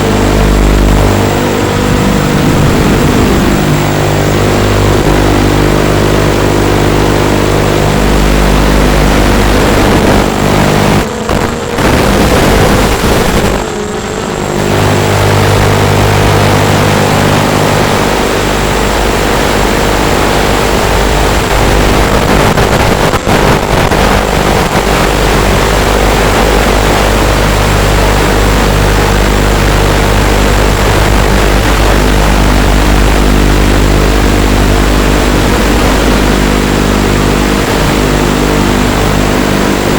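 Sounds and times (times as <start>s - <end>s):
quadcopter motors and propellers: 0.0s - 39.9s.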